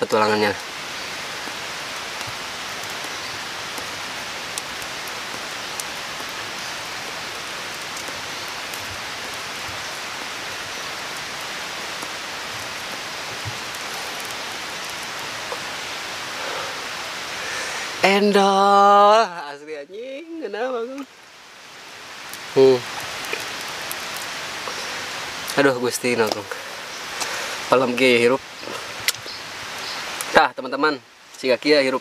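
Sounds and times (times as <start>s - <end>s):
forest ambience hiss: 0.0s - 32.0s.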